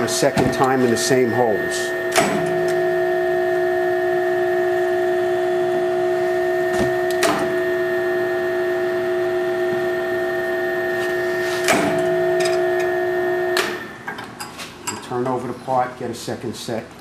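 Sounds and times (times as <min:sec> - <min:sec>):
drill press motor humming: 0:00.0 - 0:14.0.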